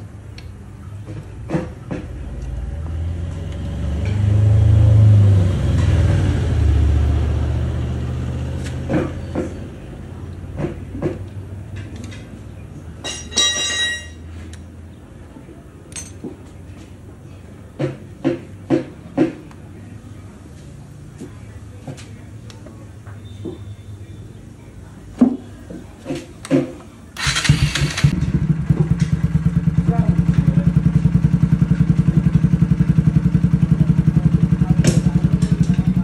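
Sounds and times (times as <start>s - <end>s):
low vehicle engine rumble: 0.0s - 13.3s, 13.9s - 36.0s.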